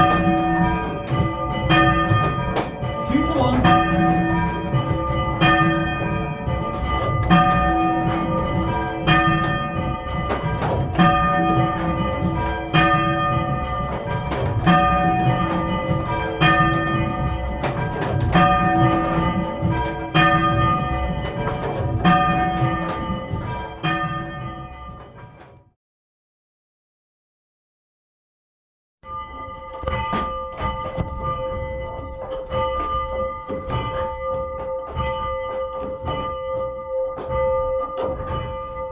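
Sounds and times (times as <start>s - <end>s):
church bells ringing: 0.0s - 25.5s, 29.1s - 38.9s.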